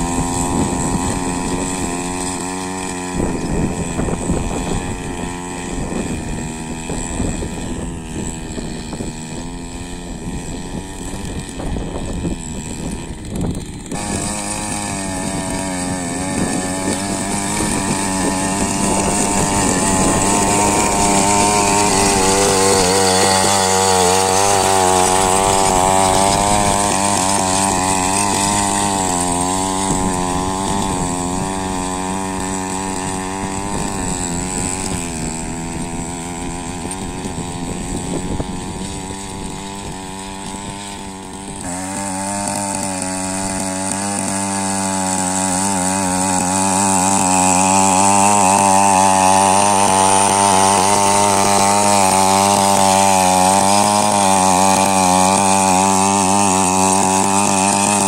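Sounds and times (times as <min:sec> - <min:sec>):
power weeder engine running: 0:00.0 - 0:58.0.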